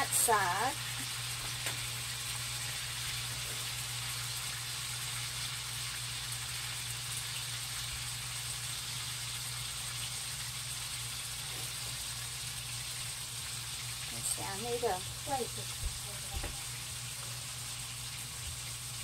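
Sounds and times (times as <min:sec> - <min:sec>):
low steady hum: 0:00.0 - 0:19.0
meat sizzling in a pan: 0:00.0 - 0:19.0.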